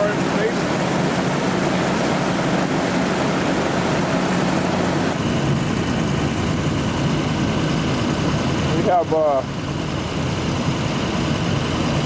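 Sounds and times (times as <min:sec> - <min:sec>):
engines idling: 0:00.0 - 0:12.0.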